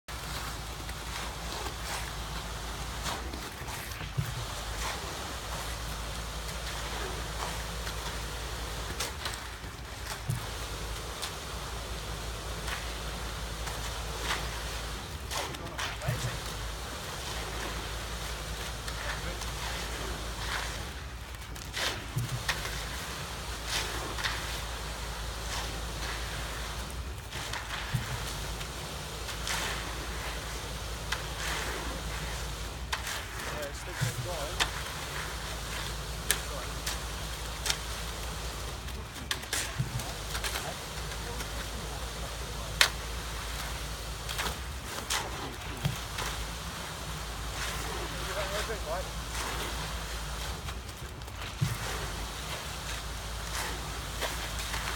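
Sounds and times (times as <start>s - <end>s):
low machine hum: 0.1s - 54.9s
steady low rumble: 0.1s - 54.9s
wet concrete scraping: 0.1s - 54.9s.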